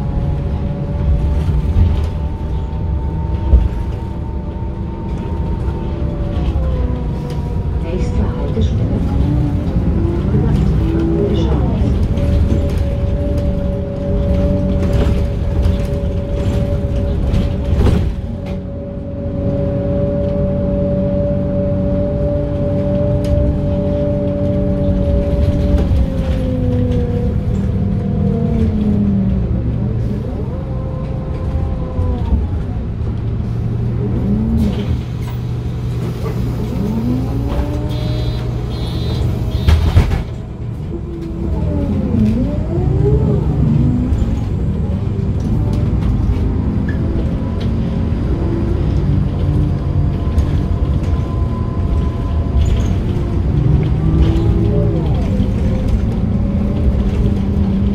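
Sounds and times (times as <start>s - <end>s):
bus engine and gearbox whining: 0.0s - 57.9s.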